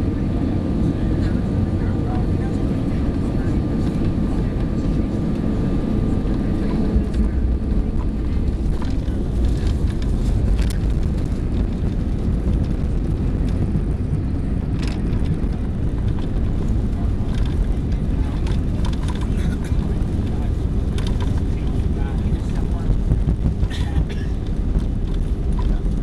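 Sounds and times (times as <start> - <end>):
airliner engine rumble: 0.0 - 26.0
faint whine: 0.0 - 26.0
light rattles: 2.4 - 26.0.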